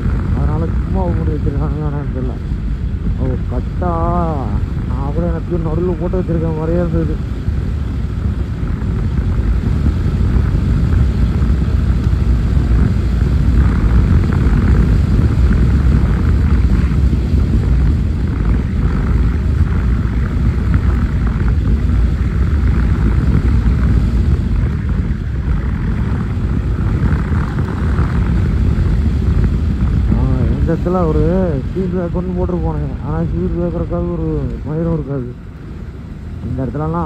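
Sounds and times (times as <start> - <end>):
motorcycle running: 0.0 - 37.0
wind buffeting microphone: 0.0 - 37.0.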